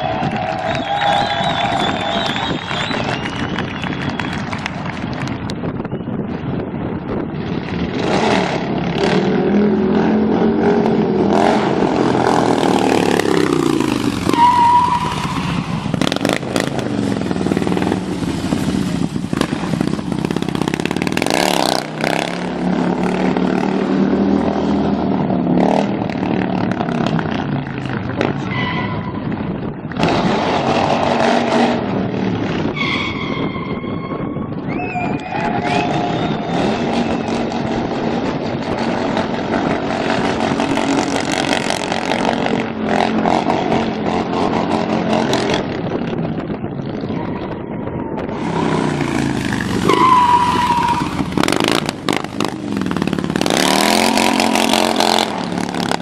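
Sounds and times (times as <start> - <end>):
motorcycle engine revving: 7.2 - 34.1, 35.3 - 47.6, 48.2 - 56.0.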